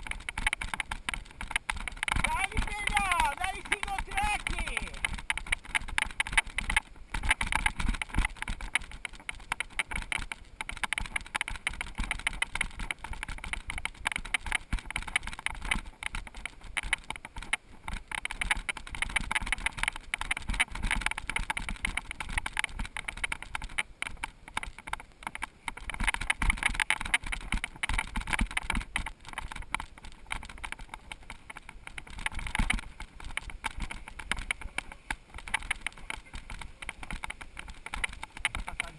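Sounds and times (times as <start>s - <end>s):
mountain bike rattling on trail: 0.0s - 38.9s.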